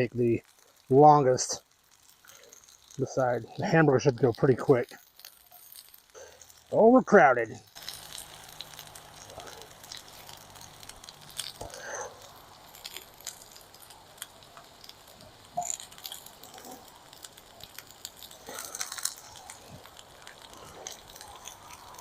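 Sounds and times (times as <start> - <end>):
potato wedges sizzling in a pan: 0.0 - 22.0.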